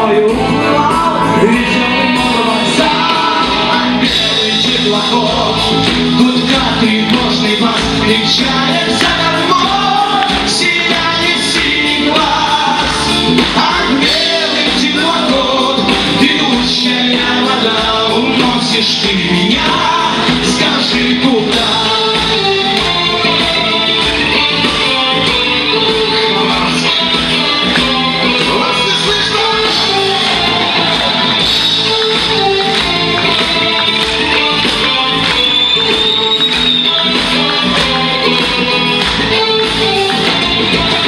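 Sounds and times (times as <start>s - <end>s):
bass guitar: 0.0s - 41.0s
drum kit: 0.0s - 41.0s
electric guitars: 0.0s - 41.0s
keyboard: 0.0s - 41.0s
person singing: 0.0s - 41.0s.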